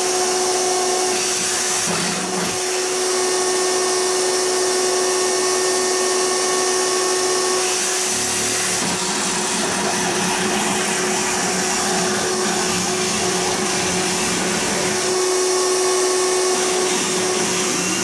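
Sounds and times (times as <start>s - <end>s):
power tool cutting fiberglass: 0.0s - 18.0s.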